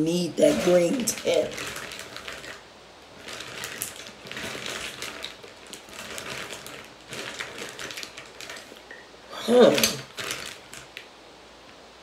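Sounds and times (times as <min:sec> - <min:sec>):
plastic containers clicking and rustling: 0:00.0 - 0:11.1.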